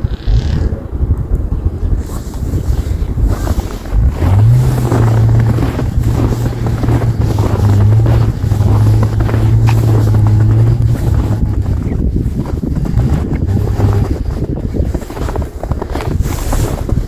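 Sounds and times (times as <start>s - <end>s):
car engine revving: 0.0s - 14.4s.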